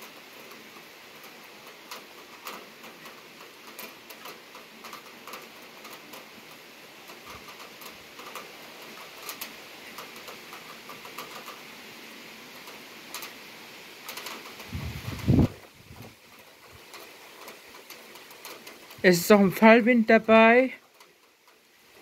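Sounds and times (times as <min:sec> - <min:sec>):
rain shower hissing: 0:00.0 - 0:22.0
raindrops tapping: 0:00.0 - 0:22.0.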